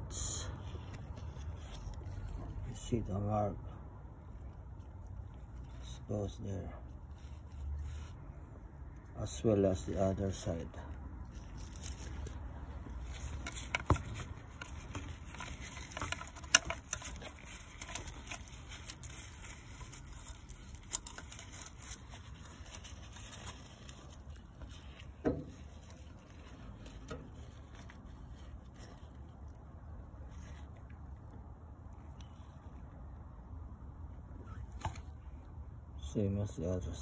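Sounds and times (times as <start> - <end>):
low background rumble: 0.0 - 37.0.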